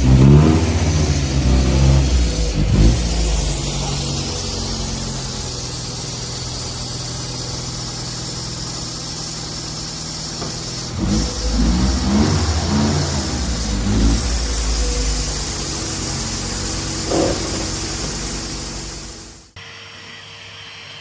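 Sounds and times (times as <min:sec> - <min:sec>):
car engine idling and revving: 0:00.0 - 0:19.6.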